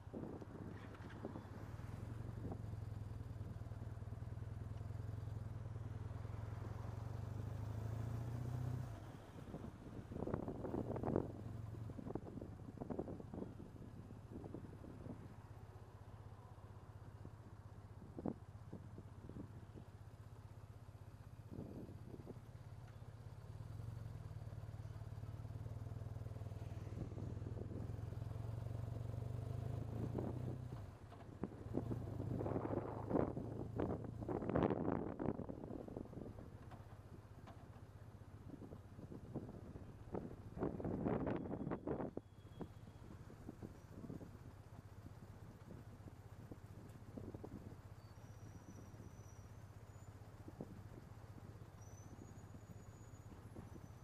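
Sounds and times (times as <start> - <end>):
motorcycle engine idling: 0.0 - 7.7, 9.0 - 54.0.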